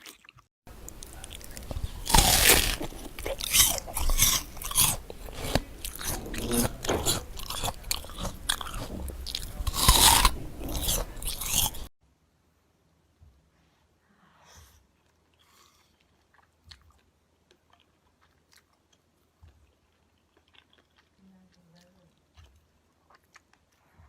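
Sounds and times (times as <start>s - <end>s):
chewing crunchy food: 0.0s - 11.9s, 14.9s - 24.0s.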